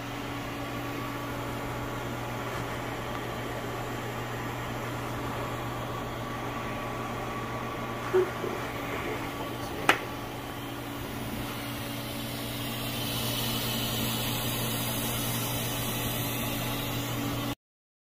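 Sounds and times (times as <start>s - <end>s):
welder humming and hissing: 0.0s - 17.6s.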